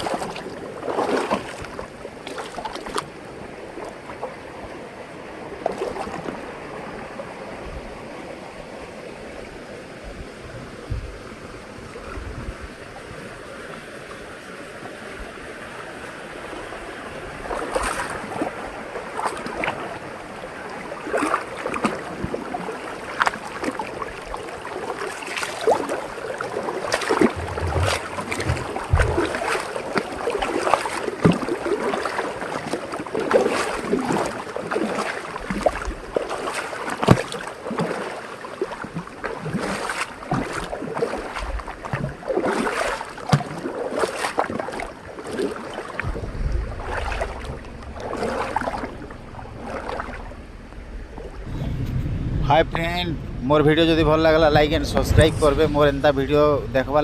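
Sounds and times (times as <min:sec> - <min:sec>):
water splashing over rocks: 0:00.0 - 0:07.4, 0:13.2 - 0:51.5.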